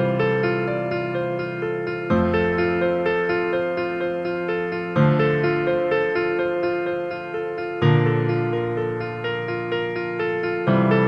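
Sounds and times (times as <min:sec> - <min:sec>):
keyboard melody: 0:00.0 - 0:11.0.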